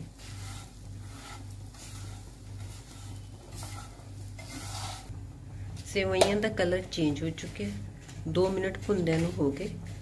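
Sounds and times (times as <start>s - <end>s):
ghee sizzling lightly: 0.0s - 5.2s, 5.9s - 10.0s
spatula stirring and scraping pan: 0.0s - 5.2s, 6.6s - 10.0s.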